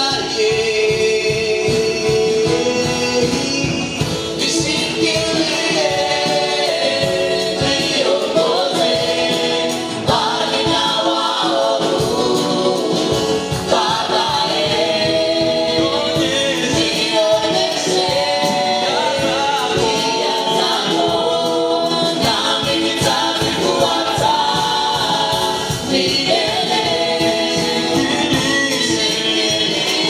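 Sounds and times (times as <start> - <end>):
choir singing gospel through speakers: 0.0 - 30.0.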